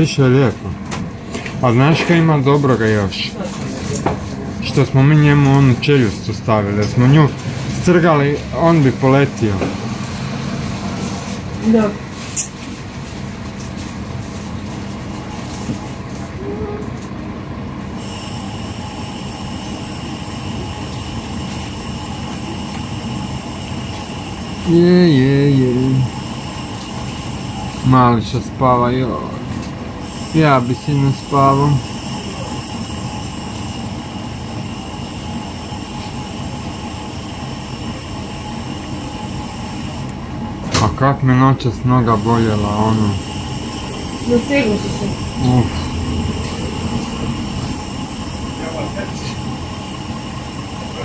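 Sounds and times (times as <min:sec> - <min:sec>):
bus engine low rumble: 0:00.0 - 0:51.0
high steady whine: 0:00.0 - 0:51.0.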